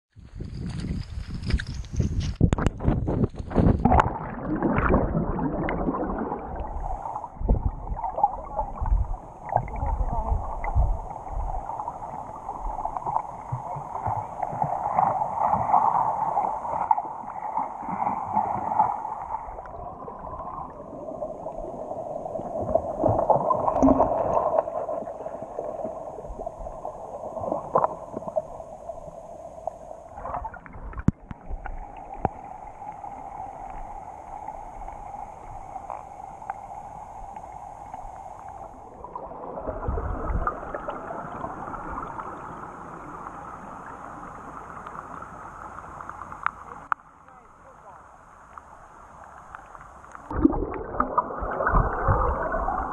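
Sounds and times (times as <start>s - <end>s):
river current underwater: 0.2s - 52.9s.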